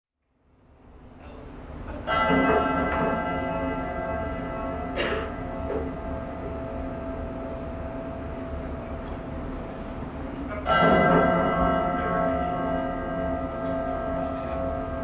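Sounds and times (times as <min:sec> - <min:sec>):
drum feedback ringing: 0:01.8 - 0:15.0.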